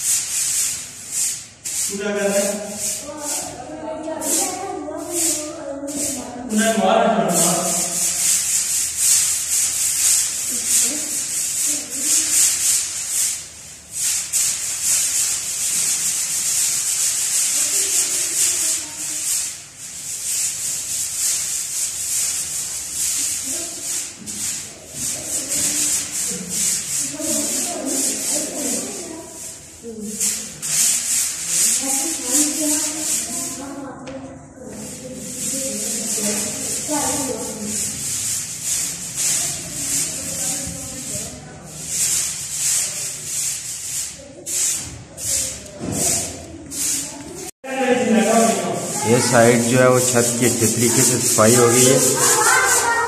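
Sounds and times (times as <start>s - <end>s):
broom sweeping concrete floor: 0.0s - 53.0s.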